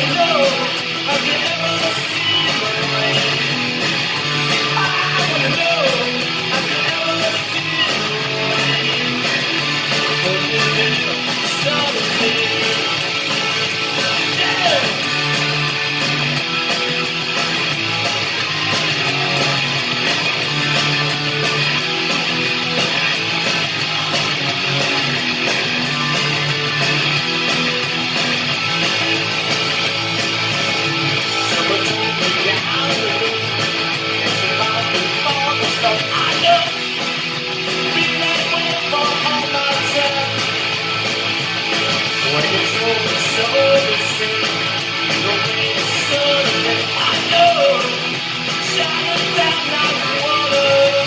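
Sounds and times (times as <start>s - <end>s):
drums keeping a beat: 0.0s - 51.0s
electric guitar strumming: 0.0s - 51.0s
rock band recording: 0.0s - 51.0s.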